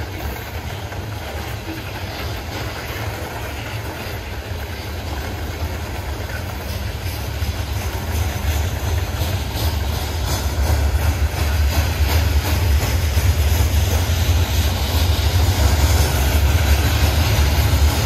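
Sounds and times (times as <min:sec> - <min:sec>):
freight train rumbling on rails: 0:00.0 - 0:18.0
train wheel clicks: 0:00.0 - 0:18.0.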